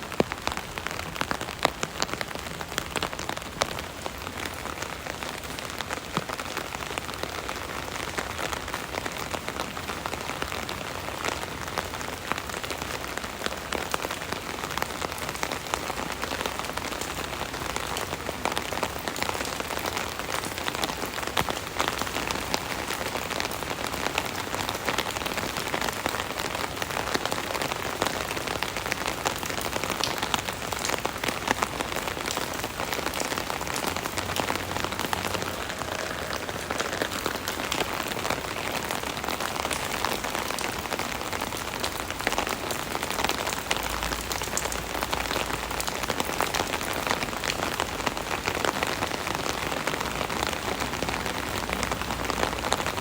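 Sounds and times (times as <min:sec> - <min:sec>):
rain drumming on umbrella: 0:00.0 - 0:53.0.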